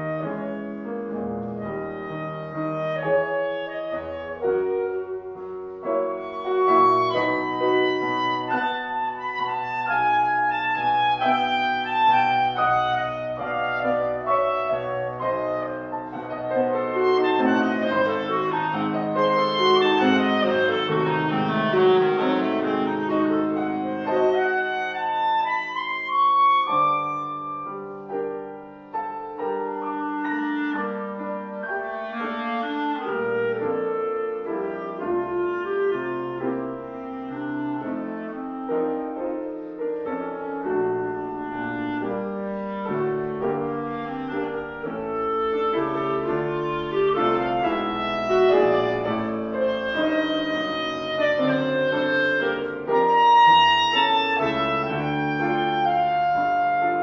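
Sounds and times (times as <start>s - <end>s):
clarinet: 0.0s - 57.0s
grand piano: 0.0s - 57.0s.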